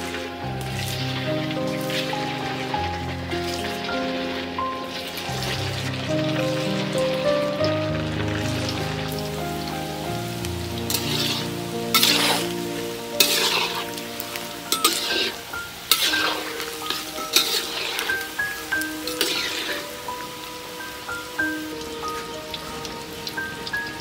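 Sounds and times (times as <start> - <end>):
oil sizzling in a wok: 0.0 - 24.0
soft melodic background music: 0.0 - 24.0.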